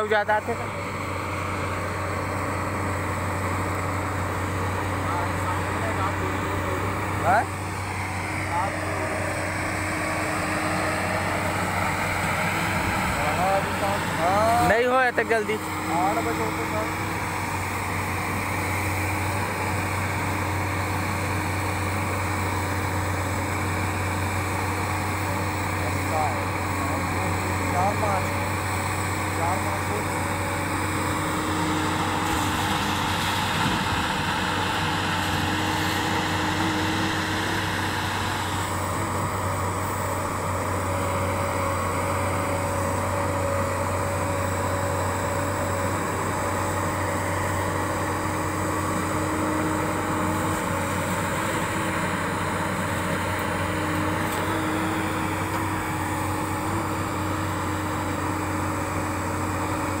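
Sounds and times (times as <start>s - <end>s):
excavator diesel engine droning: 0.0s - 60.0s.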